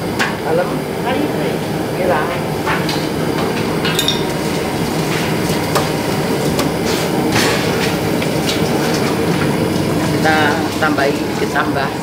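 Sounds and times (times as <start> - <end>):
gas stove burner rumbling: 0.0 - 12.0.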